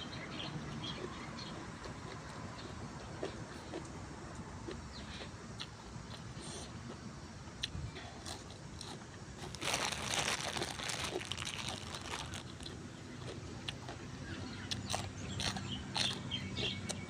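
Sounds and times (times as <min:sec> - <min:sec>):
person chewing crunchy vegetables: 0:00.8 - 0:17.0.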